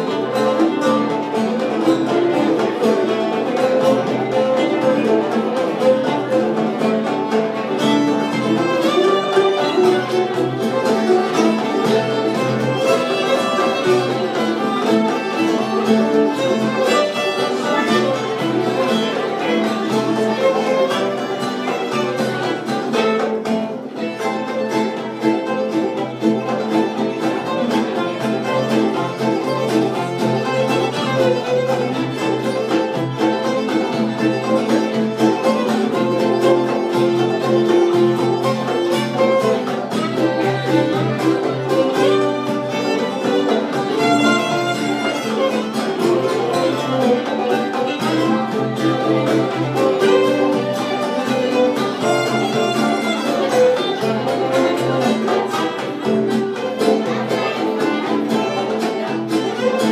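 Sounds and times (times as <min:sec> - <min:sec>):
fiddle: 0:00.0 - 0:59.9
string band playing: 0:00.0 - 0:59.9.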